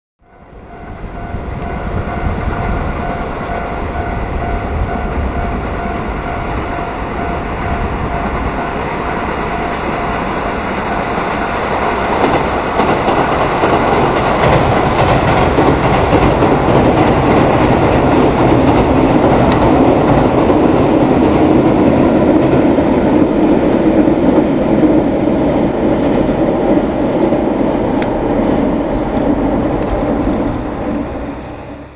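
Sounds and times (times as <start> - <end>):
train wheels rumbling on steel bridge: 0.2 - 31.9.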